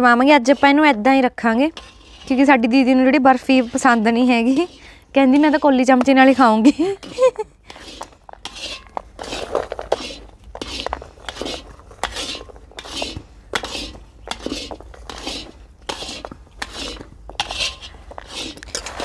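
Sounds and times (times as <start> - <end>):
metal spatula scraping iron pan: 0.0 - 19.0.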